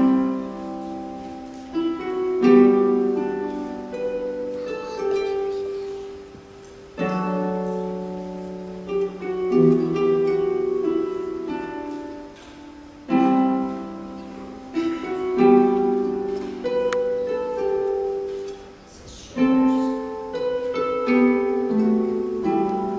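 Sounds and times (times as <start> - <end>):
harp notes and chords: 0.0 - 22.9.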